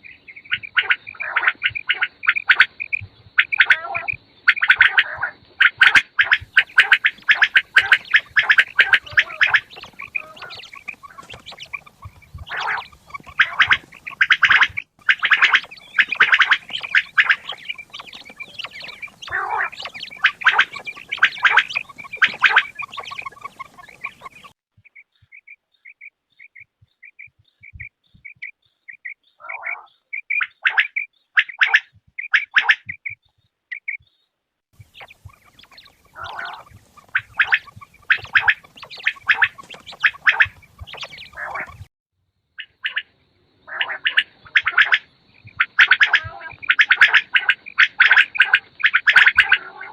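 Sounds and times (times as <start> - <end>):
quail calling: 0.0 - 34.2, 34.8 - 41.9, 42.6 - 49.9.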